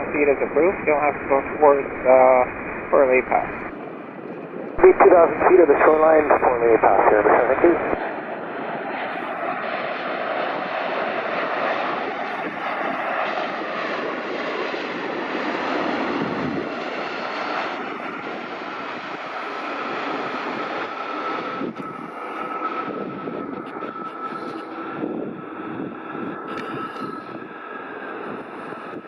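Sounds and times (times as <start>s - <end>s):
high jet whine: 0.0s - 29.0s
jet engine rushing: 0.0s - 29.0s.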